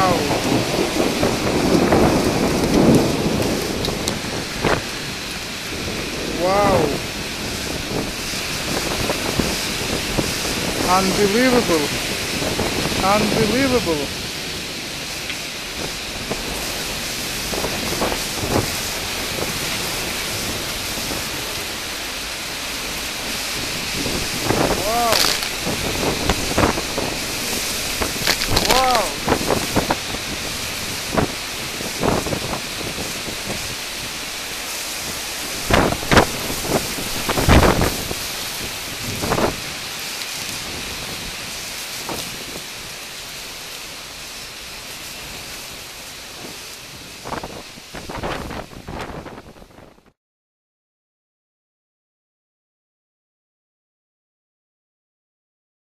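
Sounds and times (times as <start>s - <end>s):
rain spatters: 0.0s - 50.1s
heavy rain pouring: 0.0s - 50.2s.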